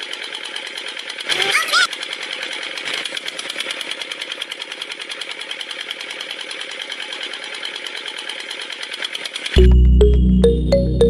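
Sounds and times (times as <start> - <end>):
diesel pump engine clattering: 0.0 - 10.6.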